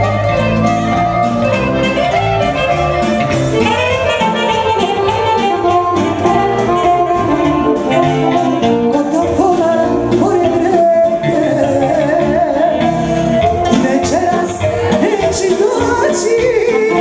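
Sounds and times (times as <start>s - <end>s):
live band music: 0.0s - 17.0s
saxophone melody: 0.0s - 17.0s.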